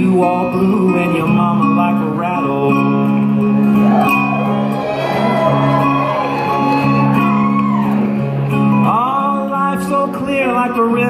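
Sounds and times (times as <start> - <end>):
acoustic guitar playing: 0.0 - 11.0
held instrument notes: 0.7 - 9.6.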